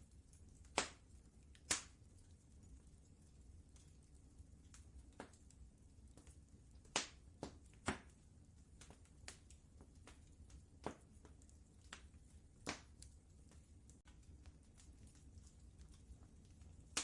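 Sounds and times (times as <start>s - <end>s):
faint low rumble: 0.0s - 17.0s
wood fire crackling: 0.0s - 17.0s.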